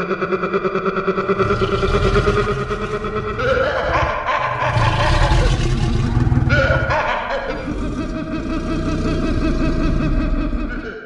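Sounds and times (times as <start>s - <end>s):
creature deep rumbling growl: 1.0s - 11.0s.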